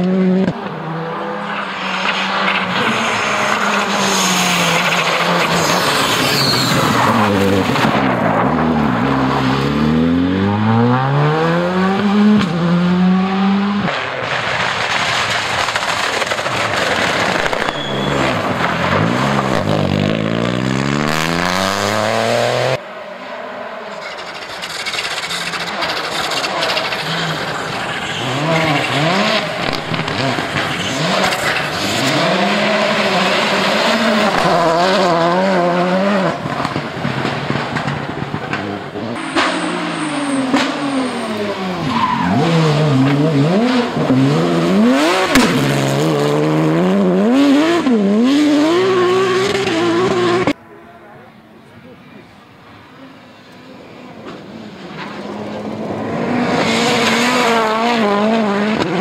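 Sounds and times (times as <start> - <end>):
rally car engines revving: 0.0 - 50.6, 52.2 - 59.0.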